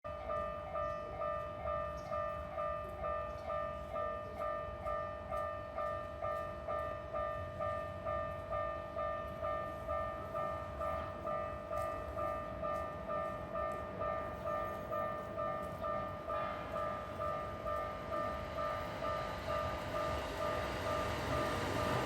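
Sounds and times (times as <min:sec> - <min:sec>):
railroad crossing bell ringing: 0:00.1 - 0:22.0.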